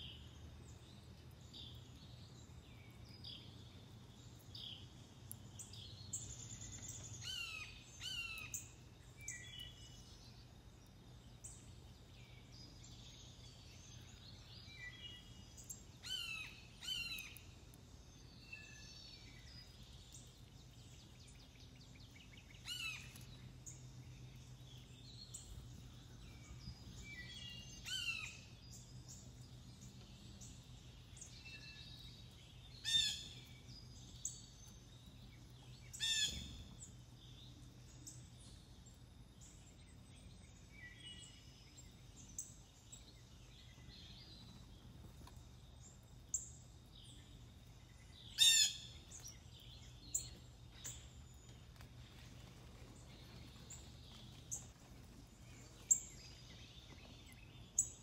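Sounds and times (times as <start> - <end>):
faint low hum: 0.0 - 58.0
songbirds whistling and chirping: 0.0 - 58.0.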